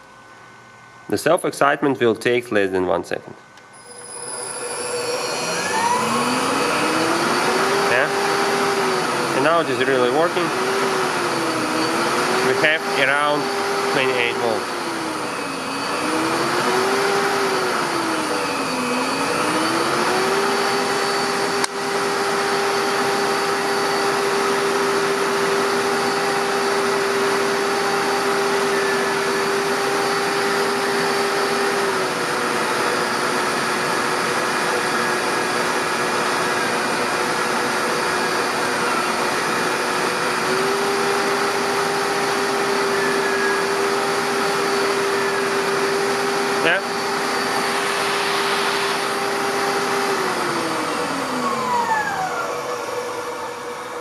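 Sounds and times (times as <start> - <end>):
electric motor whine and hiss: 3.7 - 54.0.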